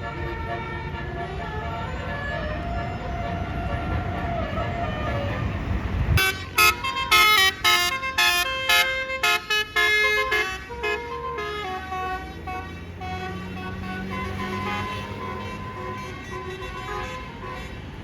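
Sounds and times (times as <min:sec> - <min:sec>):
bus air horn melody: 0:00.0 - 0:18.0.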